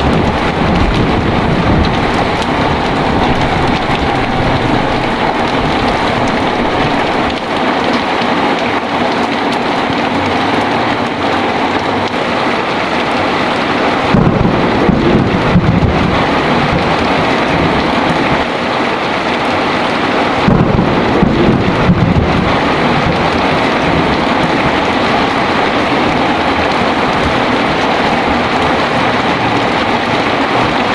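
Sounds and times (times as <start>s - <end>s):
deep thunder rumbling: 0.0s - 11.6s, 12.9s - 30.9s
heavy rain pouring: 0.0s - 30.9s.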